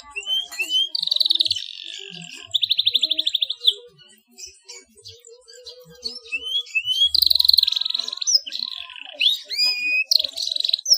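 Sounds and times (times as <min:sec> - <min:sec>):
canary singing: 0:00.0 - 0:10.9.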